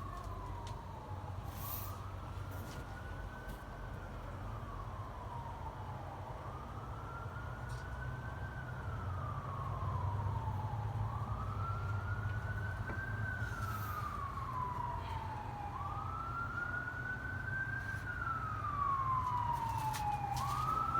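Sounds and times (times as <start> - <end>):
emergency siren wailing: 0.0 - 20.9.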